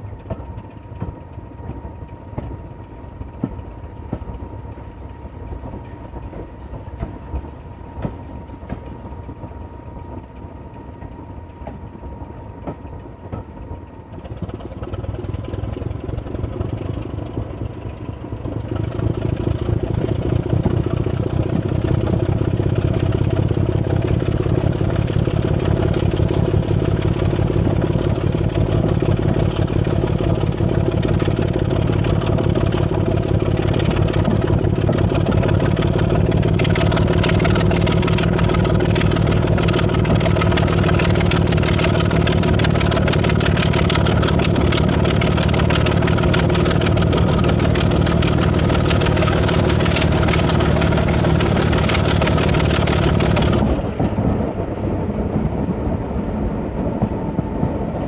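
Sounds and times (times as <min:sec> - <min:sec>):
diesel locomotive engine under load: 0:00.0 - 0:58.0
wheel and rail noise: 0:00.0 - 0:58.0.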